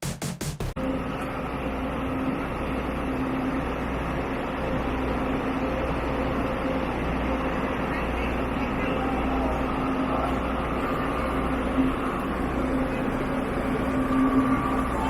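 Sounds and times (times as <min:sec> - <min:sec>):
moving vehicle drone: 0:00.8 - 0:15.0.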